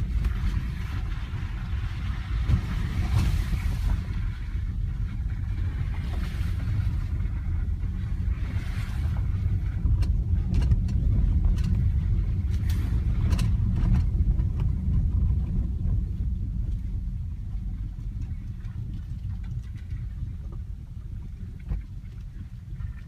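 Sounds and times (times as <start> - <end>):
car cabin rumble on dirt road: 0.0 - 23.0.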